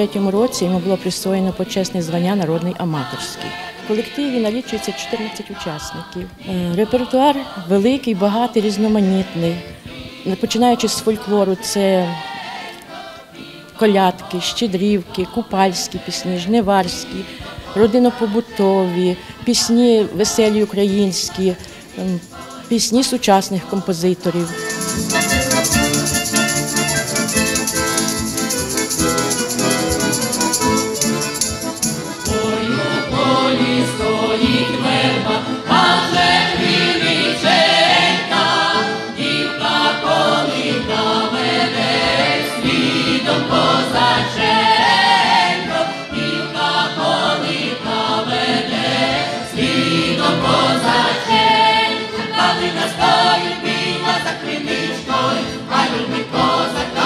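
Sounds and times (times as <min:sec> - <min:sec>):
accordion: 0:00.0 - 0:57.0
choir singing folk song: 0:00.0 - 0:57.0.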